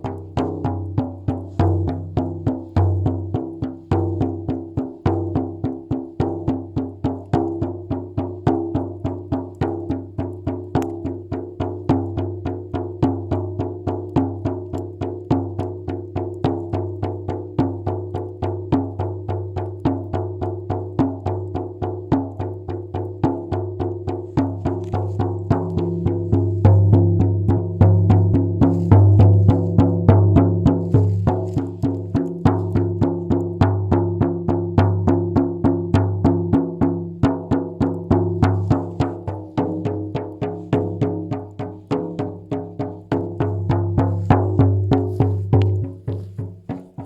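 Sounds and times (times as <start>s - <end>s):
fast drumbeat: 0.0s - 47.0s.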